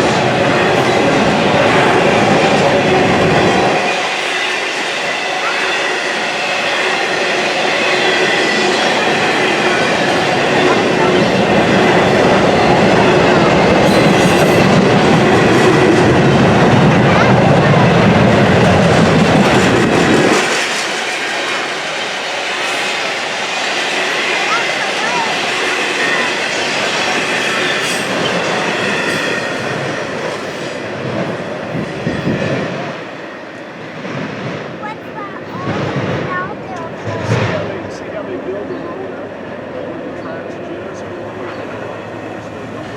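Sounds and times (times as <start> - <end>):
train wheels clattering on rails: 0.0 - 38.8.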